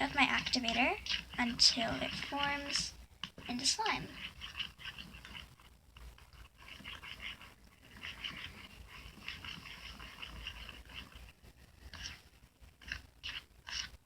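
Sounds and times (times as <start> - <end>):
slime squelching in a bowl: 0.0 - 14.0.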